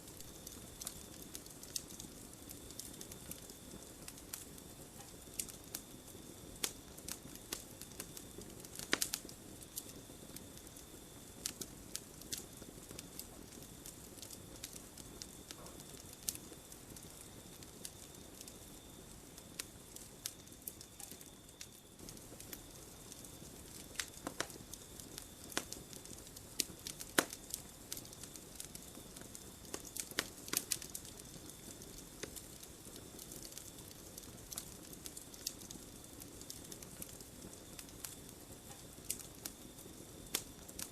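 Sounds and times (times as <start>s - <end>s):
campfire crackling and popping: 0.0s - 40.9s
soft rush of flame: 0.0s - 40.9s.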